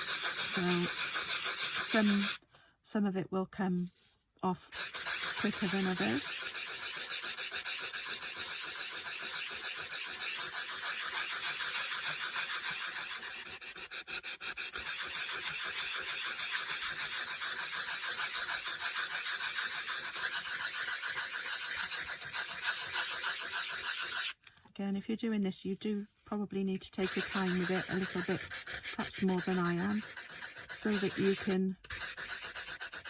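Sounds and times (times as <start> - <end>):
sanding block rasping on card: 0.0 - 2.4, 4.6 - 24.4, 27.0 - 33.0.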